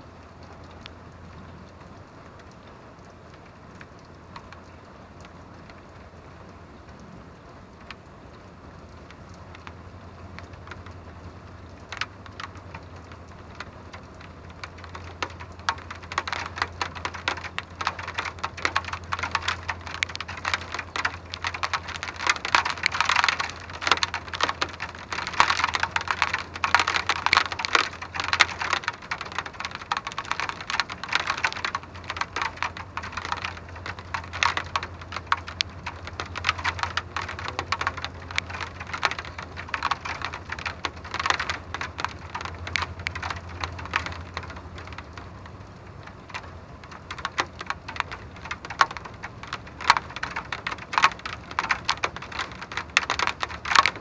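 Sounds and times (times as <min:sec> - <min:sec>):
raindrops ticking on hard surface: 0:00.0 - 0:54.0.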